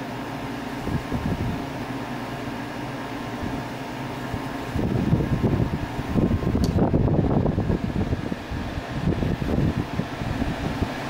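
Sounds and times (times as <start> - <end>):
air conditioner fan whir: 0.0 - 11.0.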